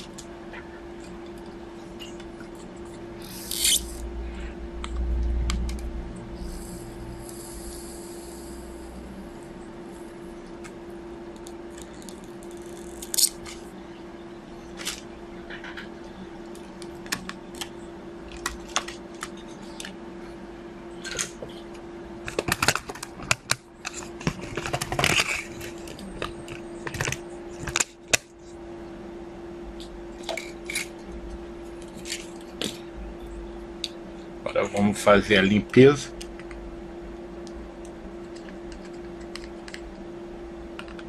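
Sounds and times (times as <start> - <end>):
faint hum: 0.0 - 41.0.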